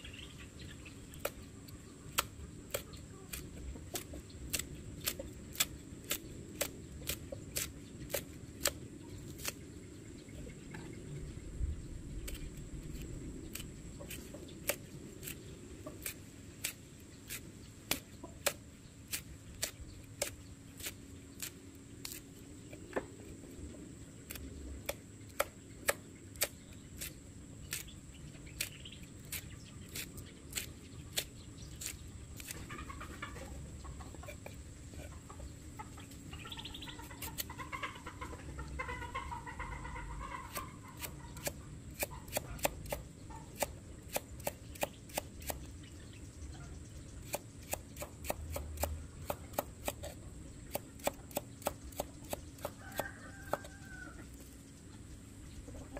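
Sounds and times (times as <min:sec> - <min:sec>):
chickens clucking: 0:00.0 - 0:11.3, 0:17.3 - 0:18.9, 0:22.1 - 0:55.9.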